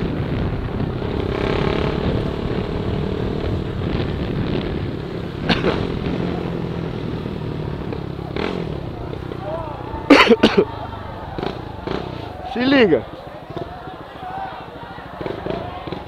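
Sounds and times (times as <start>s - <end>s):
motorcycle engine running: 0.0s - 14.0s
road and wind noise: 0.0s - 16.0s.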